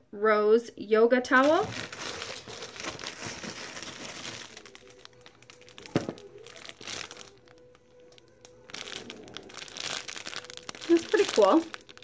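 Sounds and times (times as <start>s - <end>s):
paper and plastic packaging rustling: 1.4s - 12.0s.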